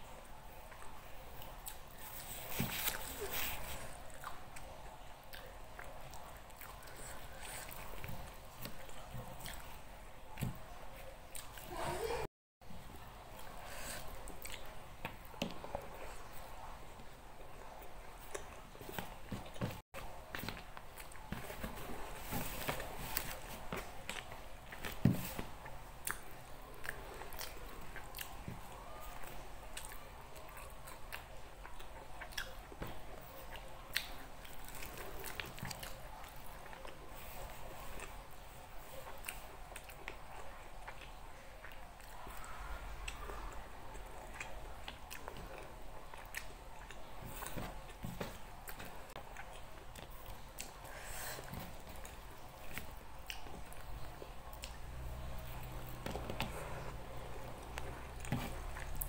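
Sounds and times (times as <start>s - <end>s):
chewing and biting: 0.6s - 11.7s, 17.6s - 59.0s.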